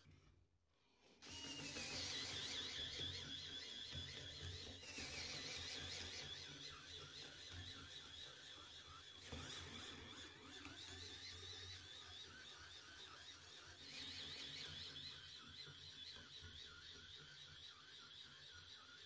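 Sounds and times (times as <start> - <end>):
cordless drill boring through wood: 1.2 - 19.0.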